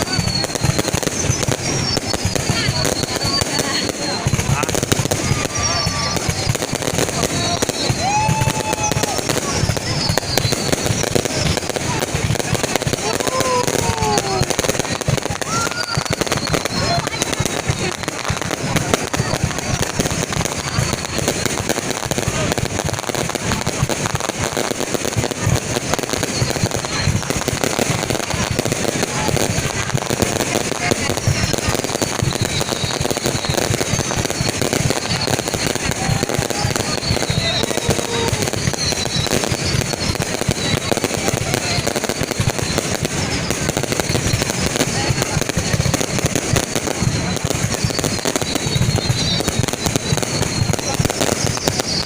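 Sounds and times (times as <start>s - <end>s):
fireworks barrage: 0.0s - 52.0s.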